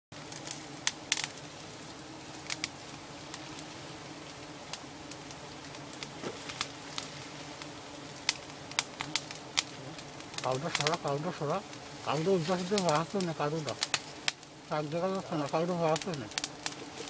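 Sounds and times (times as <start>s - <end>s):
twigs and branches snapping: 0.2s - 1.4s, 2.4s - 3.7s, 4.7s - 14.5s, 15.4s - 17.0s.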